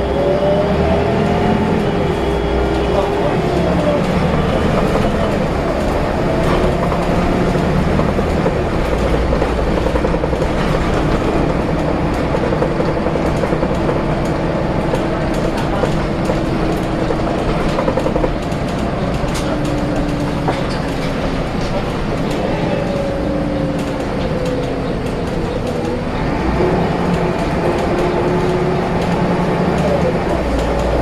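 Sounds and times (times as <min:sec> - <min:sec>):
bus diesel engine low rumble: 0:00.0 - 0:31.0.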